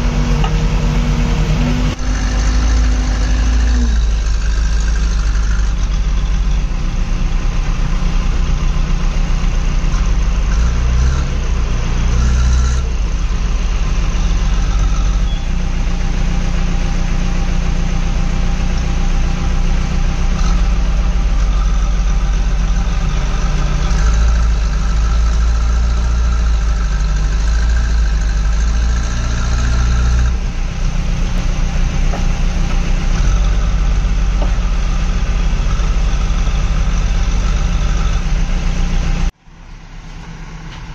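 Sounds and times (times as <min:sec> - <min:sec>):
diesel engine running: 0:00.0 - 0:40.9
second loader engine: 0:00.0 - 0:40.9.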